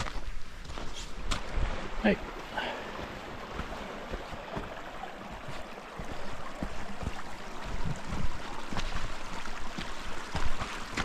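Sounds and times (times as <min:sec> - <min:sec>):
boots crunching through snow: 0:00.0 - 0:01.8, 0:02.4 - 0:11.0.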